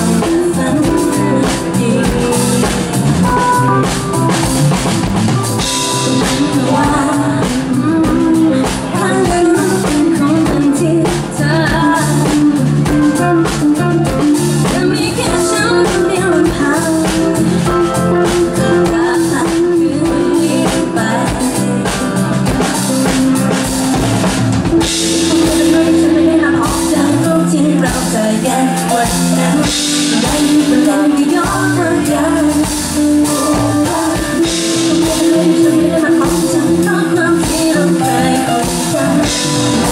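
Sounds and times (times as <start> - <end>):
woman singing: 0.0 - 4.6, 5.5 - 24.0, 24.7 - 39.9
drum kit: 0.0 - 39.9
keyboard: 0.0 - 39.9.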